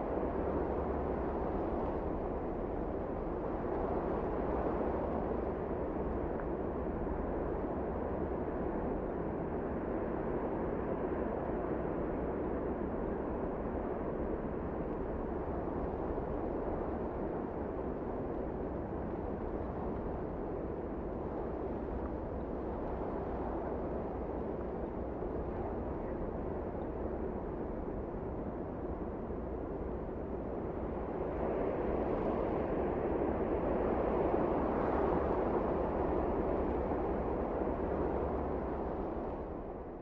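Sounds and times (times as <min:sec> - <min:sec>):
strong wind: 0:00.0 - 0:40.0.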